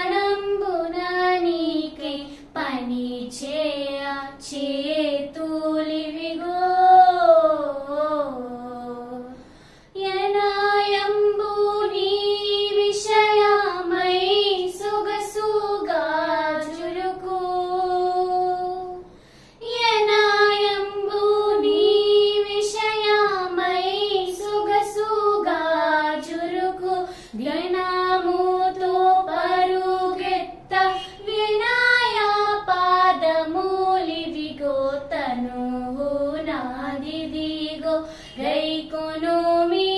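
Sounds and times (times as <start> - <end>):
girls singing in unison: 0.0 - 39.9.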